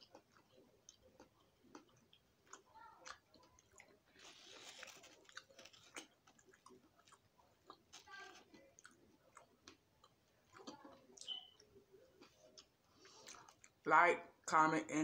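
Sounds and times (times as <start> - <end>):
chewing food: 0.0 - 13.8.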